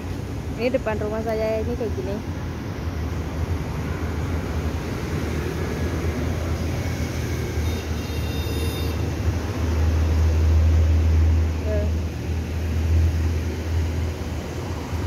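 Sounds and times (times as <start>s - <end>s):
low rumble of passing vehicles: 0.0s - 15.0s.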